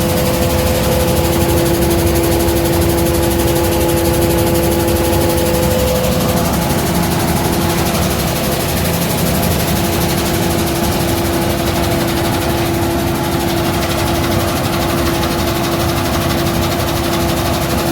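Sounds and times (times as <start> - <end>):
grain cleaning machine running: 0.0 - 17.9
tractor engine: 0.0 - 17.9.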